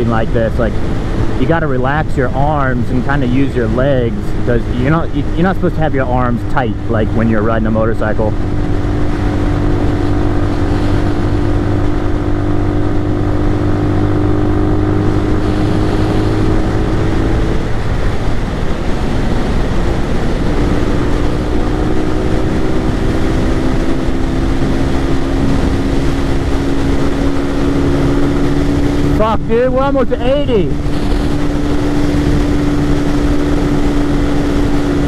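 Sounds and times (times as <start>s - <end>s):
motorcycle engine at high revs: 0.0s - 35.0s
wind rush: 0.0s - 35.0s.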